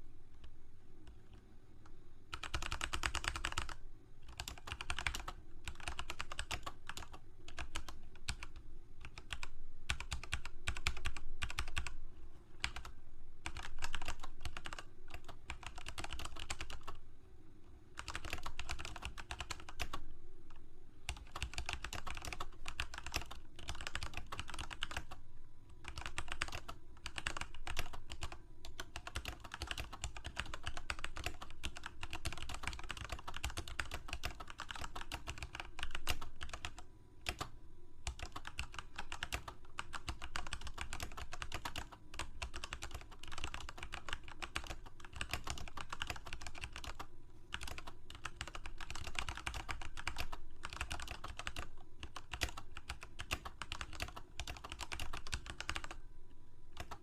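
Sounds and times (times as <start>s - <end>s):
keyboard typing: 2.3s - 12.0s, 12.6s - 17.0s, 18.0s - 25.2s, 25.8s - 56.0s, 56.7s - 57.0s.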